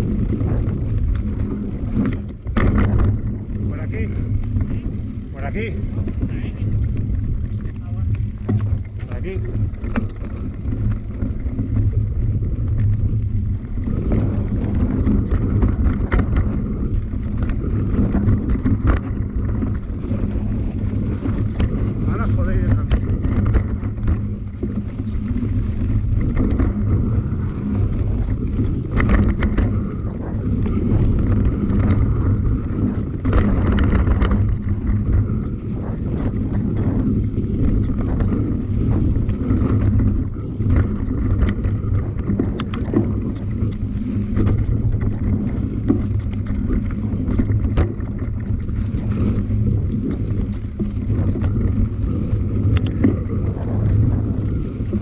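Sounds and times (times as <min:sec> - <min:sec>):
vehicle engine running: 0:00.0 - 0:55.0
wind buffeting microphone: 0:00.0 - 0:55.0.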